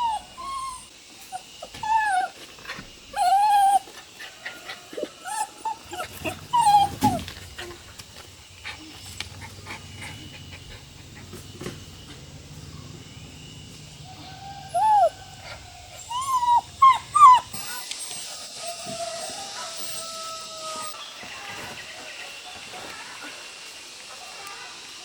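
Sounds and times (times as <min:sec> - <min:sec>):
dog whining: 0:00.0 - 0:21.0.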